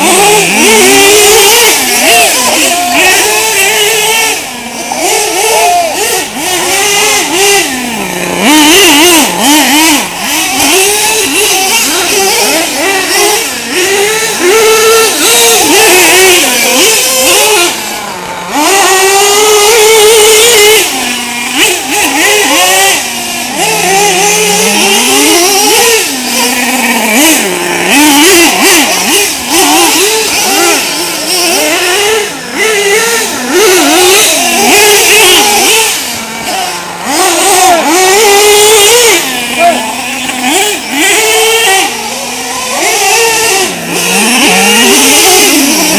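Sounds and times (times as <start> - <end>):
small nitro engines revving: 0.0 - 45.9.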